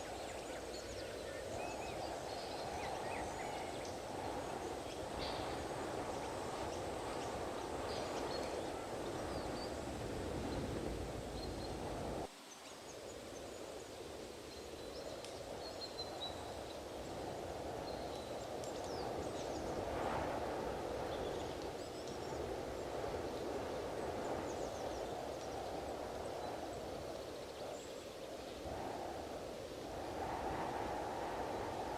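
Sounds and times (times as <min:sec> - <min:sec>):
wind buffeting microphone: 0:00.0 - 0:12.3, 0:14.8 - 0:31.9.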